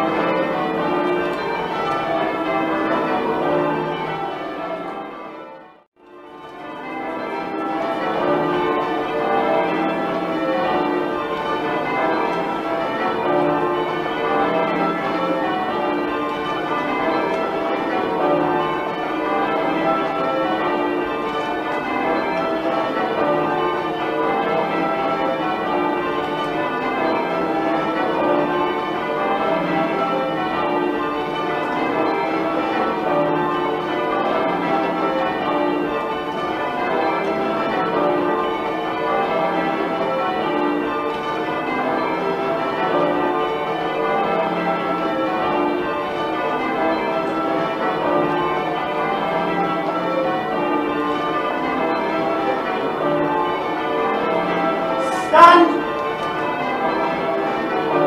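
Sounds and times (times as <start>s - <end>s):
church bells change-ringing: 0.0s - 58.0s.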